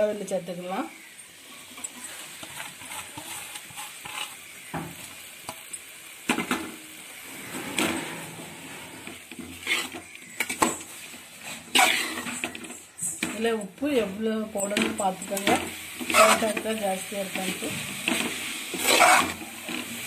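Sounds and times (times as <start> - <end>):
light sizzle: 0.0 - 20.0
ladle stirring and scraping pan: 1.3 - 20.0.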